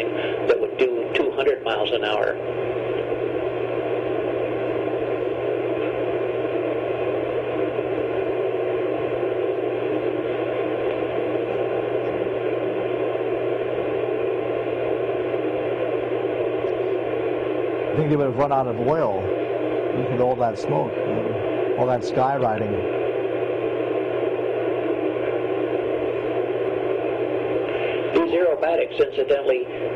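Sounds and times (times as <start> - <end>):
low constant hum: 0.0 - 29.9.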